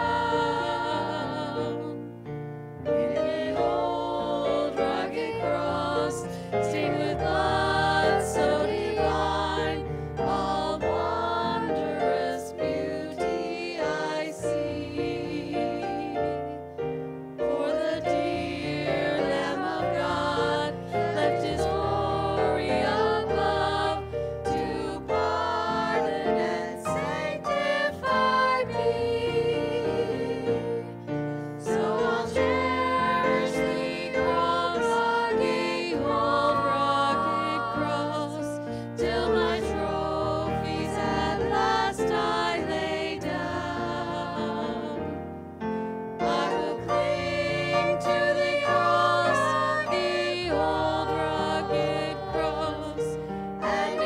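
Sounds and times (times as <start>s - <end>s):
group singing worship song: 0.0s - 54.0s.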